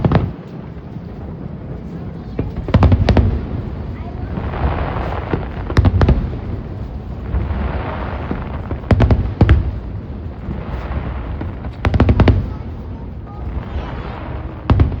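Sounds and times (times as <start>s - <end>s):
background rumble: 0.0s - 15.0s
fireworks booming: 0.0s - 15.0s.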